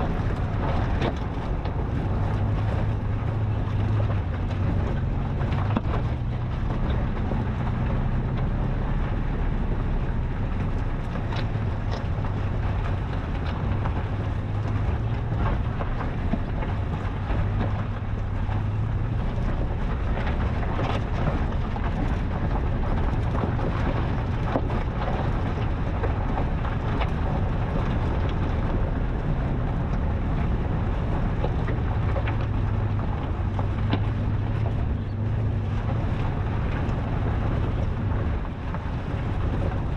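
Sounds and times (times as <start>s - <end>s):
truck engine drone: 0.0s - 39.9s
wind noise on microphone: 0.0s - 39.9s.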